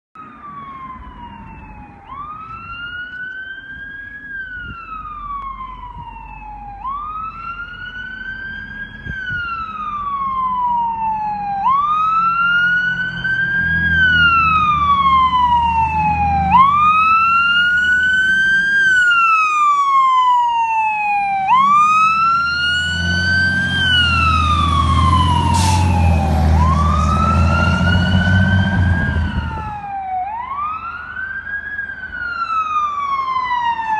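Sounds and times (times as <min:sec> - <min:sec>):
fire engine siren wailing: 0:00.2 - 0:33.9
truck engine rumble: 0:00.4 - 0:33.9.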